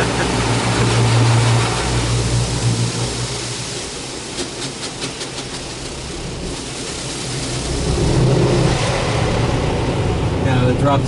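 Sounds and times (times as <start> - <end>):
car wash spray hissing: 0.0 - 10.4.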